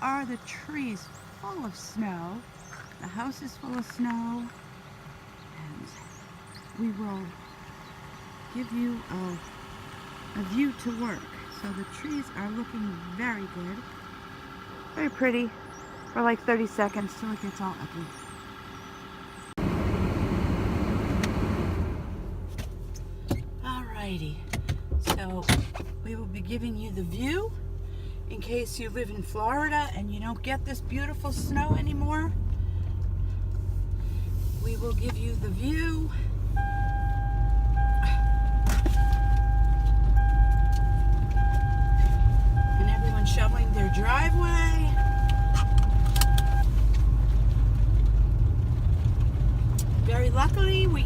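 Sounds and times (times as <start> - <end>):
road and engine rumble: 0.0 - 51.0.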